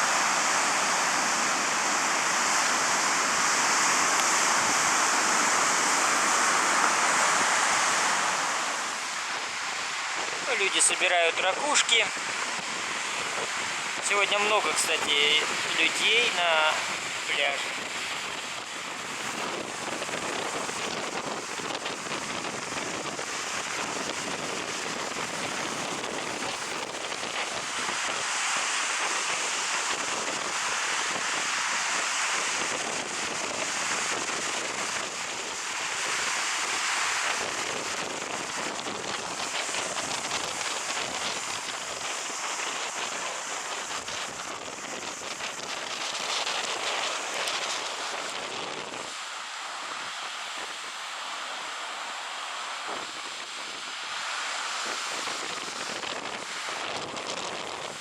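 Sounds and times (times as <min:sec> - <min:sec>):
strong wind on microphone: 0:00.0 - 0:51.7, 0:52.7 - 0:58.0
stormy sea surf: 0:00.0 - 0:58.0.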